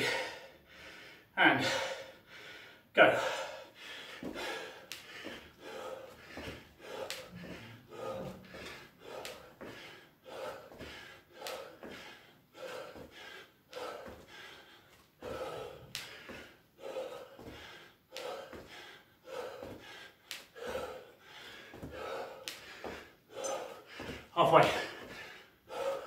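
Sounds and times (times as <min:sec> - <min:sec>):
man breathing hard: 0:00.0 - 0:26.0.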